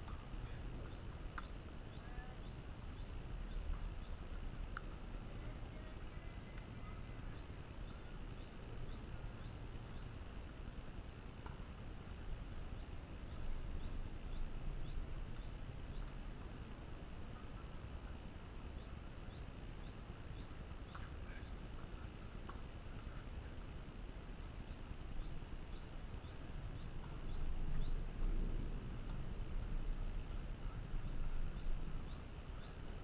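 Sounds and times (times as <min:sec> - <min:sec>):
bird chirping: 0:00.0 - 0:10.4, 0:12.5 - 0:23.8, 0:24.4 - 0:33.0
wind rumble on microphone: 0:00.0 - 0:33.0.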